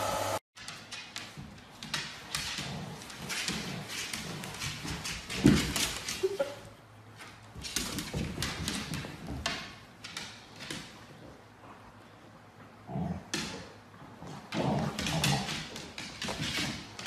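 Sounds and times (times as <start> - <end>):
paws scrabbling on wooden floor: 0.6 - 12.2, 13.4 - 17.0.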